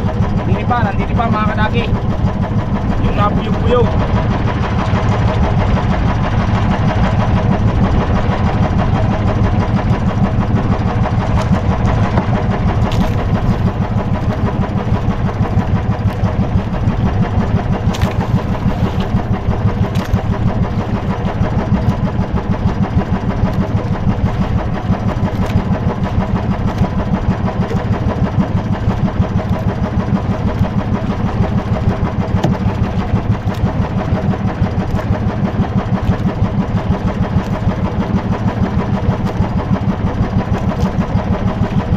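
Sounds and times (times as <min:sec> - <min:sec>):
small boat engine idling: 0:00.0 - 0:41.9.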